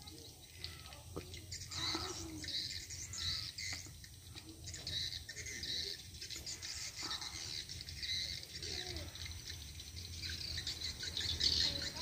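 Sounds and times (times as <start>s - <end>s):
swiftlets twittering: 0.0s - 12.0s.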